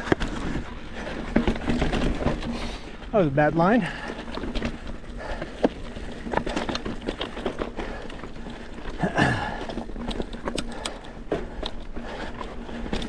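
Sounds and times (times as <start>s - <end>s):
bike rattling over rocks: 0.0s - 13.0s.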